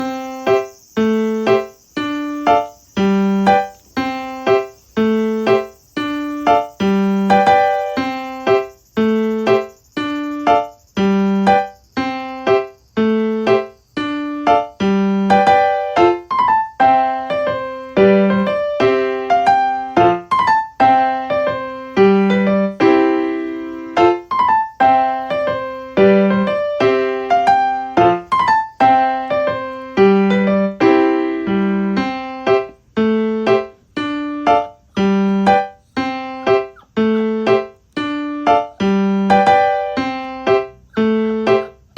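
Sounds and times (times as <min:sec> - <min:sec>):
gentle piano tune: 0:00.0 - 0:41.9.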